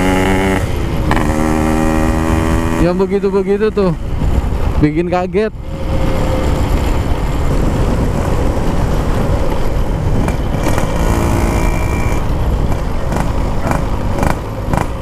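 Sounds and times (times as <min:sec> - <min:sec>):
two-stroke motorcycle engine: 0:00.0 - 0:03.6, 0:05.8 - 0:15.0.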